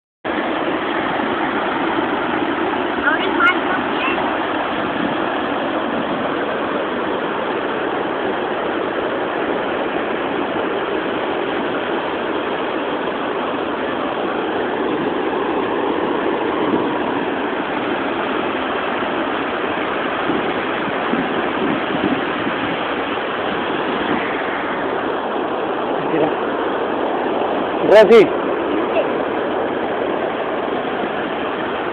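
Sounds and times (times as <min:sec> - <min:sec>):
ocean surf breaking: 0:00.3 - 0:31.9.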